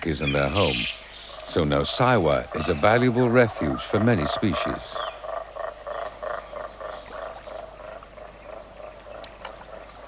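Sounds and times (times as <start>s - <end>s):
frogs croaking: 0.0s - 10.0s.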